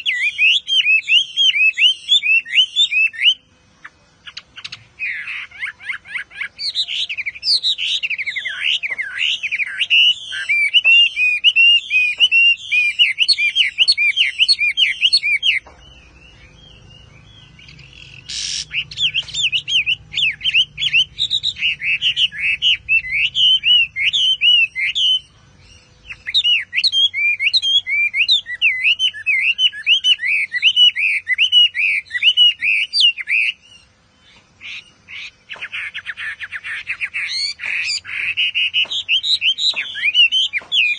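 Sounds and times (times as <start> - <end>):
bird singing whistled notes: 0.0 - 40.9.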